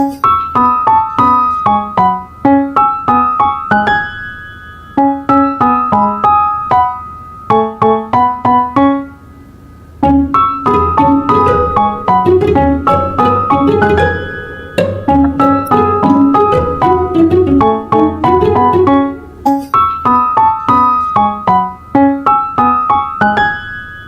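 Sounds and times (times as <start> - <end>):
piano-like ringtone melody: 0.0 - 9.2, 10.0 - 24.0.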